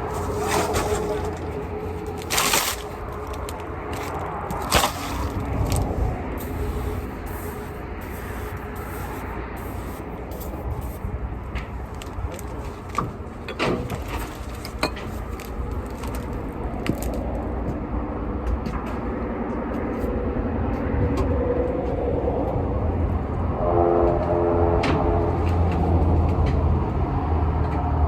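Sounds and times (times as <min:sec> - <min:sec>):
low vehicle engine rumble: 0:00.0 - 0:28.0.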